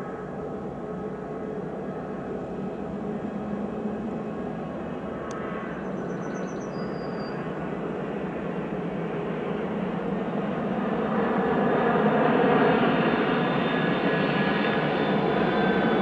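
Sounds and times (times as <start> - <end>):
jet airliner engine noise: 0.0 - 16.0.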